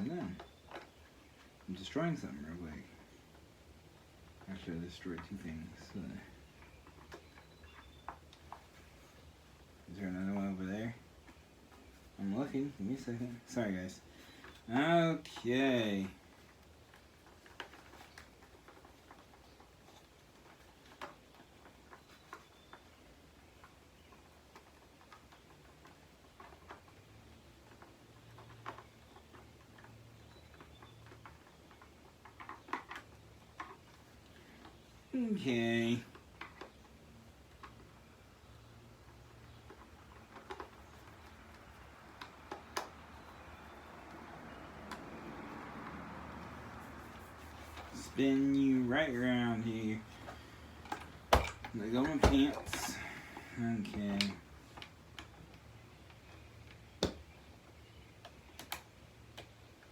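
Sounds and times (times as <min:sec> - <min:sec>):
small hard parts clicking: 0:11.1 - 0:59.9.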